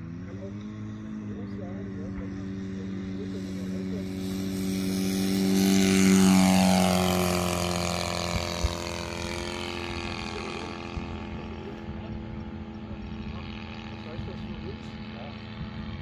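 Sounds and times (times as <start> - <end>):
model plane engine passing by: 0.0 - 16.0.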